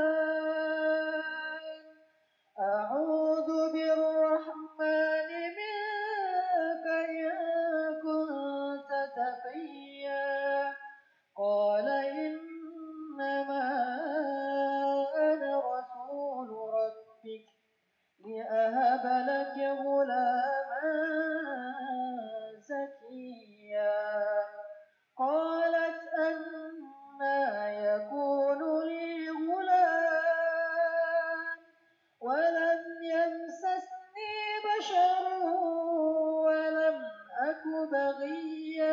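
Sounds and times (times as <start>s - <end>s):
song with singing voice: 0.0s - 17.6s, 18.2s - 38.9s.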